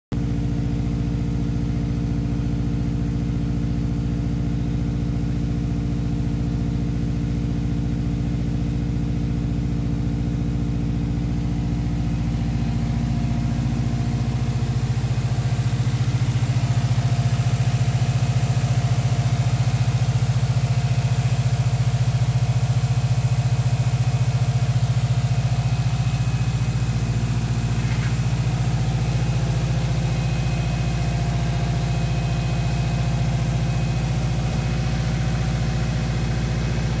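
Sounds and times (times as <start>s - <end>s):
car engine idling: 0.2s - 37.0s.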